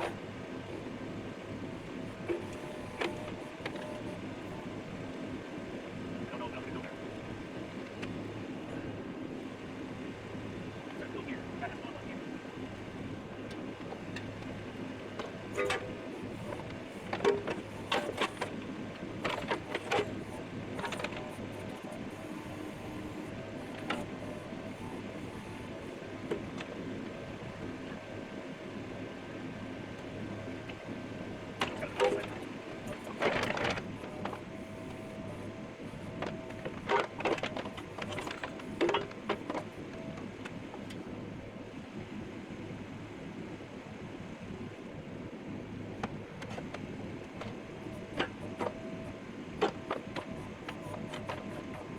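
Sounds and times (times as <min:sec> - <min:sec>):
excavator engine humming: 0:00.0 - 0:42.5, 0:45.5 - 0:51.9.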